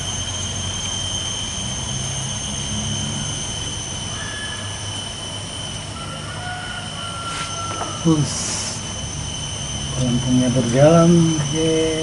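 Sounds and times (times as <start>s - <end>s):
high-pitched whine: 0.0s - 12.0s
low hum: 0.0s - 12.0s.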